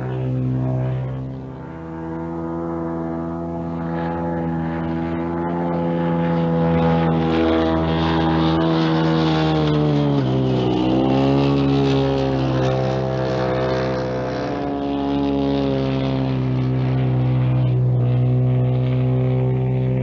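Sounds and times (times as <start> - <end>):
model plane engine droning: 0.0 - 20.0.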